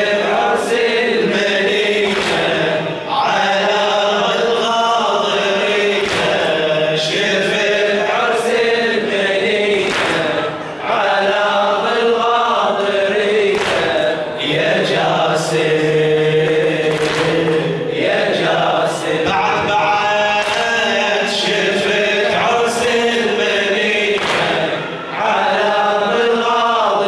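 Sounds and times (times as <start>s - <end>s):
man chanting into a microphone: 0.0s - 27.0s.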